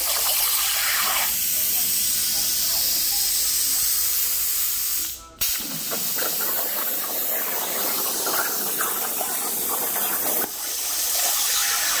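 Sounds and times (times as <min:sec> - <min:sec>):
plasma torch cutting steel: 0:00.0 - 0:12.0.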